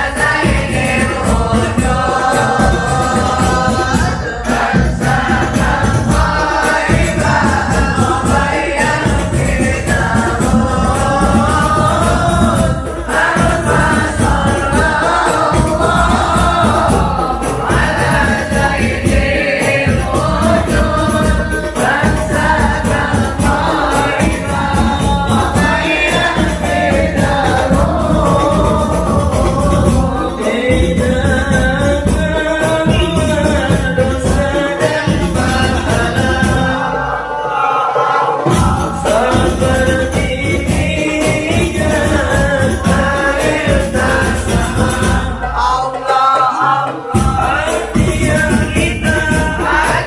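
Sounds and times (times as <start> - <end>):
frame drum and tambourine: 0.0 - 50.0
group singing devotional songs: 0.0 - 50.0.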